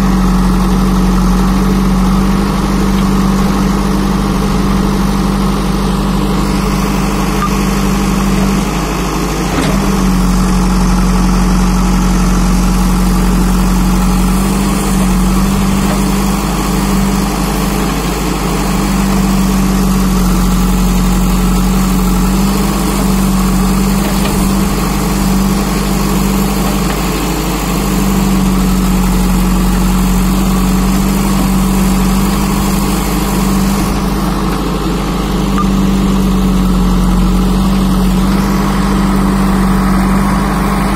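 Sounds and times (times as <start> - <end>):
backhoe digging soil: 0.0 - 40.9
diesel engine running: 0.0 - 40.9.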